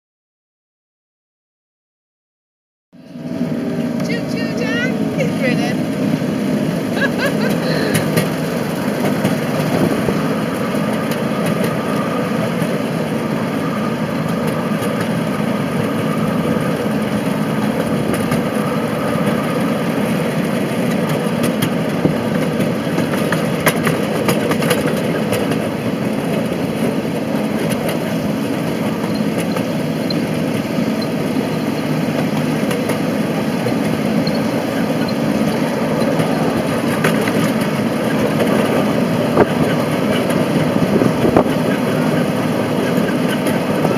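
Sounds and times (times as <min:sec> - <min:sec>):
miniature train rumbling on track: 0:03.0 - 0:43.9.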